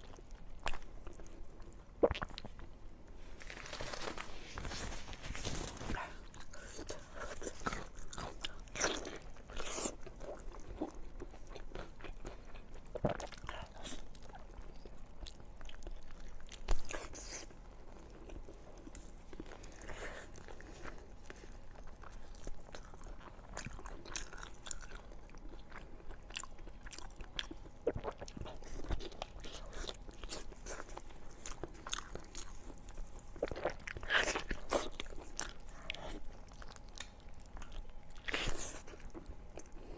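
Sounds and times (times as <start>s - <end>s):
chewing meat on bone: 5.5s - 39.9s.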